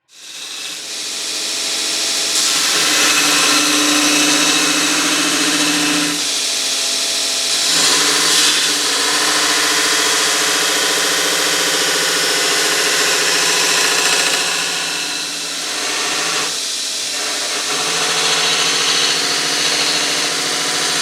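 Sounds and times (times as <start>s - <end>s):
grinder grinding steel: 0.1s - 21.0s.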